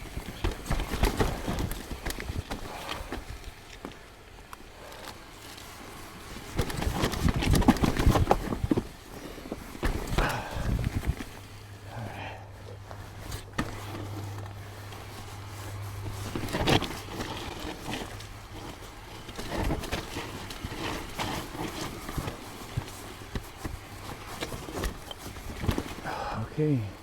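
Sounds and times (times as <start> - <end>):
bike knocks and rattles: 0.0 - 26.4
tyres on dirt and rock: 0.0 - 27.0.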